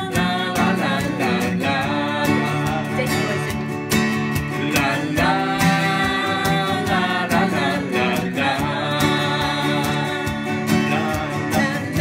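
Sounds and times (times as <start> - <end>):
man and woman singing: 0.0 - 3.6, 4.4 - 12.0
strummed acoustic guitar: 0.0 - 12.0.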